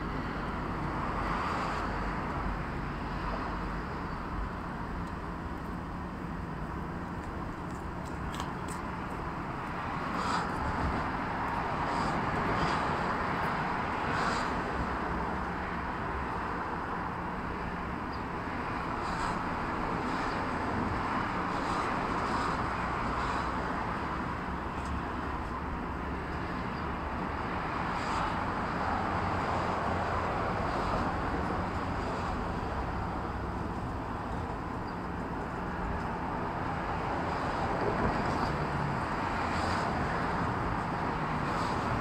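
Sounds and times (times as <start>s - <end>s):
distant traffic: 0.0s - 42.0s.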